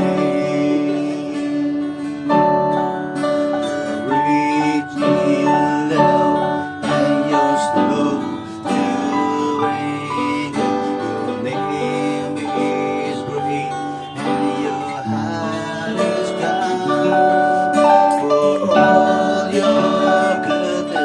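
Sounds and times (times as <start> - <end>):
electronic keyboard melody: 0.0 - 21.0
strummed guitar: 0.0 - 21.0.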